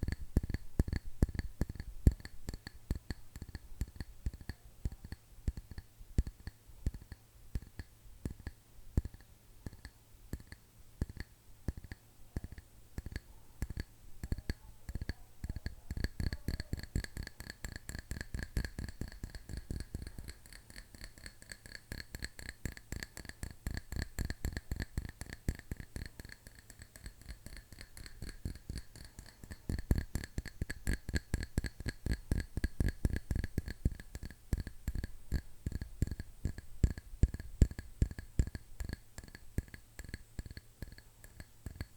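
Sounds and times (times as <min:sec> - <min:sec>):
fingernails tapping on hard object: 0:00.0 - 0:41.9.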